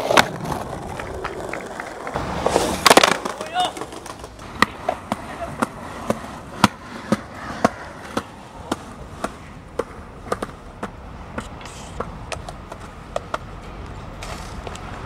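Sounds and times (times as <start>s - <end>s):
skateboard clicks and clacks: 0.0s - 15.0s
skateboard wheels rumbling: 0.0s - 15.0s.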